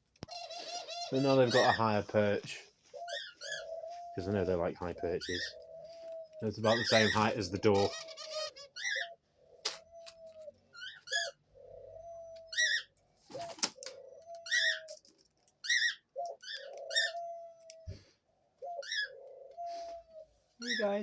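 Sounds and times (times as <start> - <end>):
dove cooing: 0.2 - 21.0.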